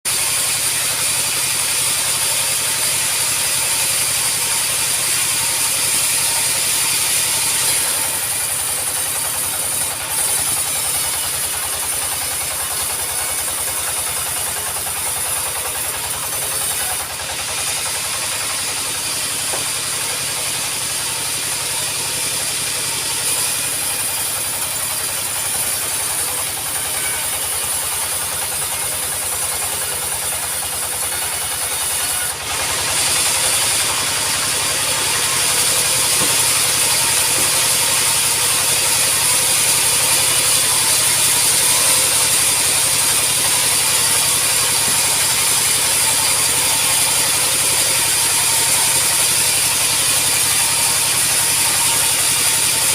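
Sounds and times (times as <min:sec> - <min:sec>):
saw cutting through log: 0:00.0 - 0:52.9.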